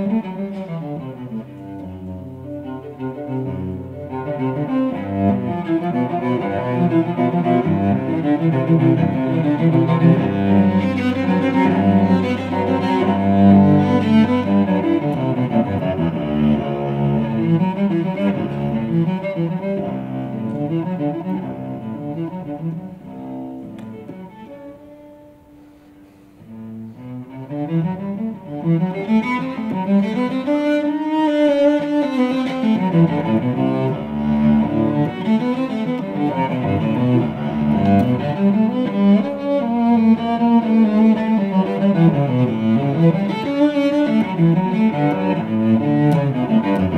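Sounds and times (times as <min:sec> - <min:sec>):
solo cello bowed: 0:00.0 - 0:46.9.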